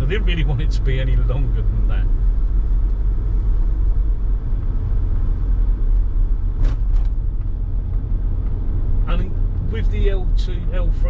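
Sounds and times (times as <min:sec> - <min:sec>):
low rumble of vehicle: 0:00.0 - 0:11.0.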